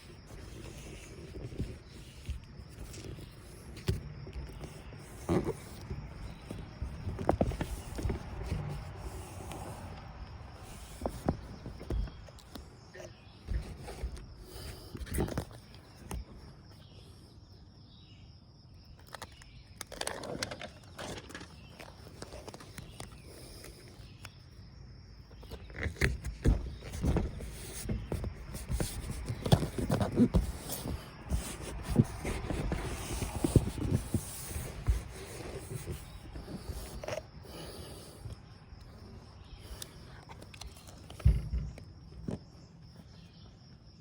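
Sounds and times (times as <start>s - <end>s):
tape rubbing and crinkling: 0.0s - 16.8s, 19.0s - 24.2s, 25.3s - 42.5s.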